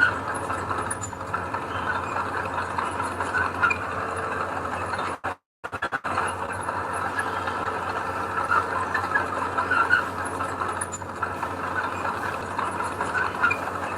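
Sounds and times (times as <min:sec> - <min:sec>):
diesel engine droning: 0:00.0 - 0:05.2, 0:05.9 - 0:13.9
short metallic squeaks: 0:00.0 - 0:05.2, 0:07.0 - 0:13.9.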